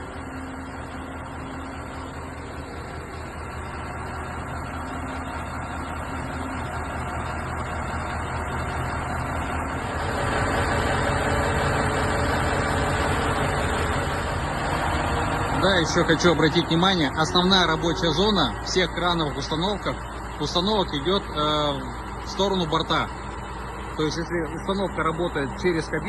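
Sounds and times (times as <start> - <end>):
crane engine and hydraulic hum: 0.0 - 26.0.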